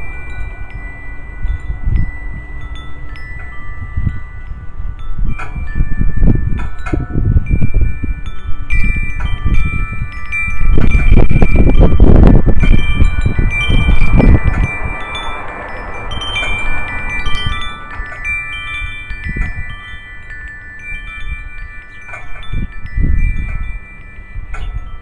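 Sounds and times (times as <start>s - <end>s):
low rumbles: 0.0s - 25.0s
metal wind chimes ringing: 0.0s - 25.0s.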